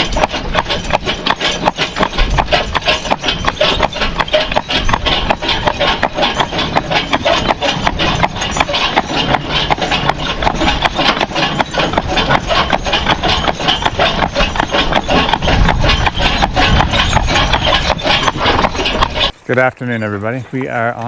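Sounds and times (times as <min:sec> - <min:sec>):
horse hooves clopping: 0:00.0 - 0:21.0
wagon rattling: 0:00.0 - 0:21.0.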